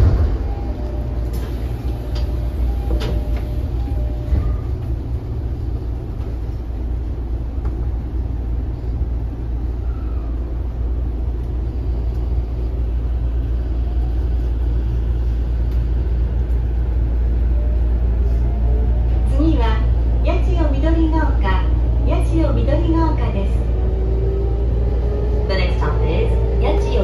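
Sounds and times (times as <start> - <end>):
train rumble inside carriage: 0.0 - 27.0.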